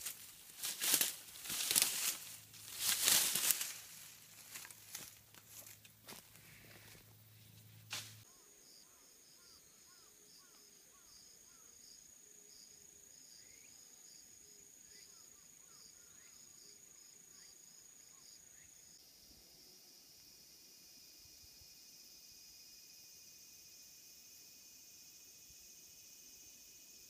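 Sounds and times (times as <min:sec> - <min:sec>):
insect song: 0:00.0 - 0:27.0.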